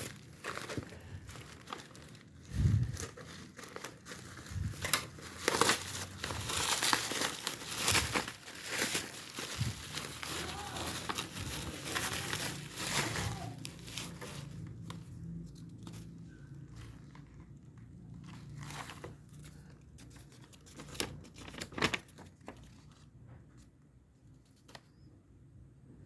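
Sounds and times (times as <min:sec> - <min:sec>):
packaging tearing and crinkling: 0:00.0 - 0:23.0.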